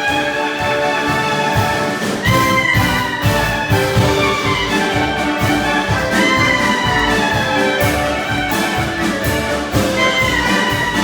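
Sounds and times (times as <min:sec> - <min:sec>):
live band playing klezmer: 0:00.0 - 0:11.0
bass beat: 0:01.6 - 0:11.0.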